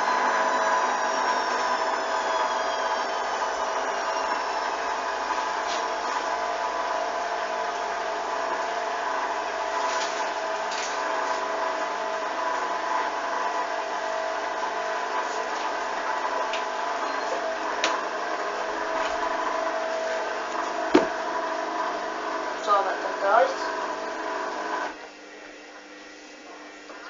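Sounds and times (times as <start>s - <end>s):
washing machine drum spinning: 0.0s - 23.1s.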